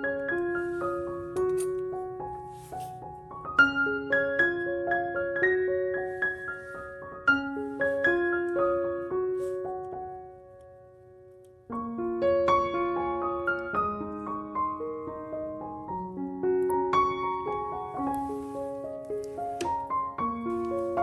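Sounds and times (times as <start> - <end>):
gentle solo piano melody: 0.0 - 21.0.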